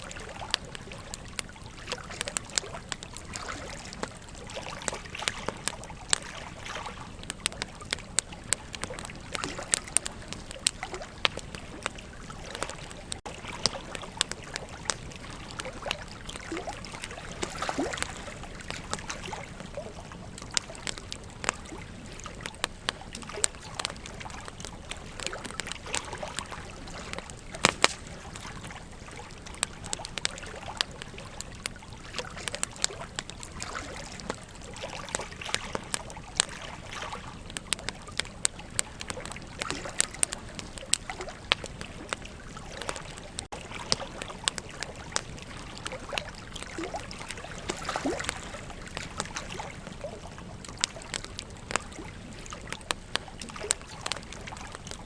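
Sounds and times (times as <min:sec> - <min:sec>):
flowing river water: 0:00.0 - 0:55.0
wood fire crackling and popping: 0:00.0 - 0:55.0.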